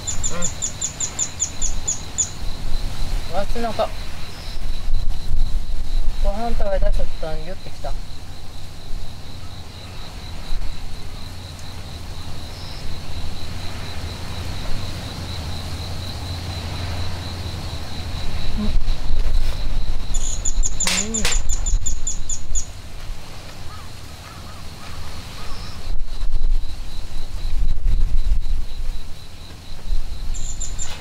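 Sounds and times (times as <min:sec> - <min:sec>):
insect trill: 0:00.0 - 0:31.0
wind rumble on microphone: 0:00.0 - 0:31.0.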